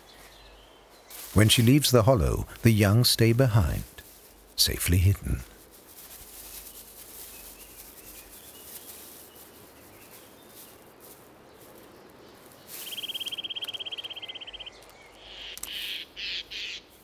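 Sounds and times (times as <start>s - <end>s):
faint woodland ambience: 0.0s - 17.0s.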